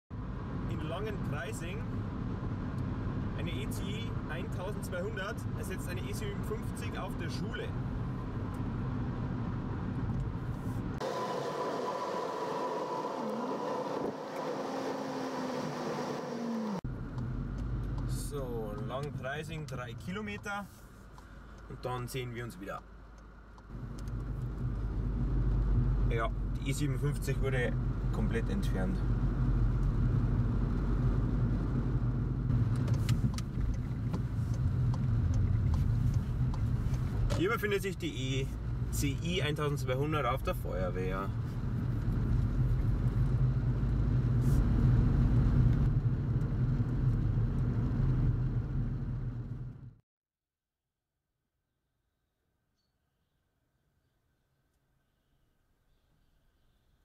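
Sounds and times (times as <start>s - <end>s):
vehicle engine and road rumble: 0.1s - 50.0s.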